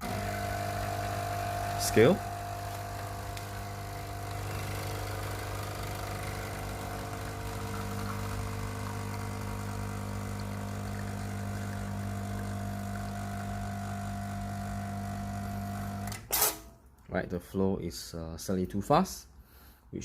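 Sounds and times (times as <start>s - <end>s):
espresso machine pump humming: 0.0s - 16.2s.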